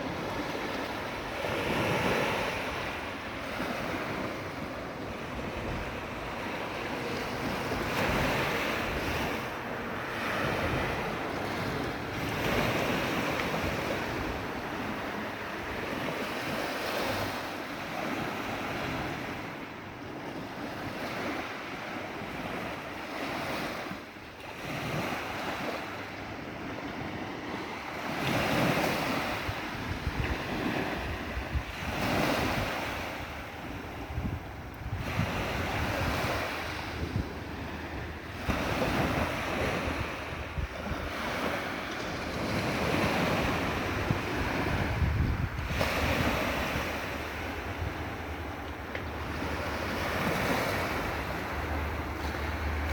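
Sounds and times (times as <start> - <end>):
sea waves breaking: 0.0 - 52.9.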